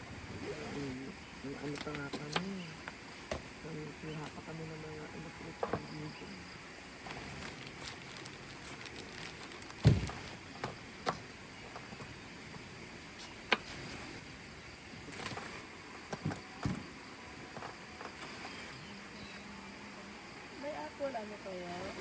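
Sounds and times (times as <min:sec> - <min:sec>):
background hiss: 0:00.0 - 0:22.0.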